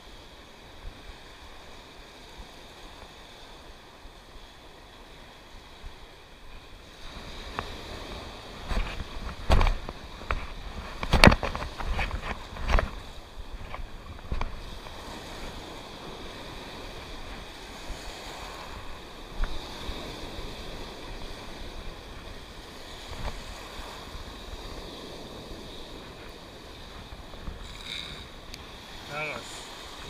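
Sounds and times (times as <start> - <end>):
sea surf breaking: 0.0 - 30.0
wind on microphone: 0.0 - 30.0.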